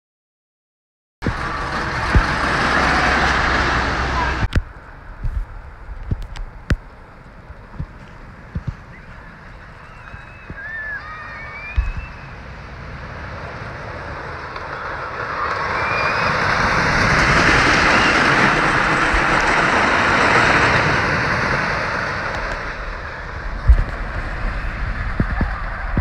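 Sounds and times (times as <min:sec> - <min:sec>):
roller coaster rumbling on wooden track: 0:01.2 - 0:26.0.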